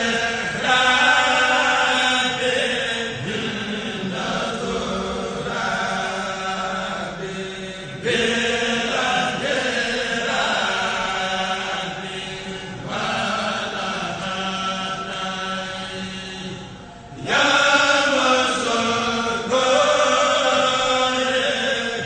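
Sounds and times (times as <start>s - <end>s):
male choir chanting in unison: 0.0s - 22.0s.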